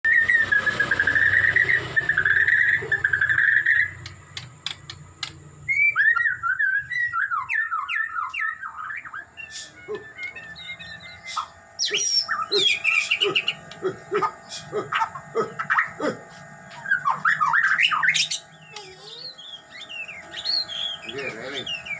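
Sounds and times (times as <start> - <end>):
songbird singing: 0.1 - 21.9.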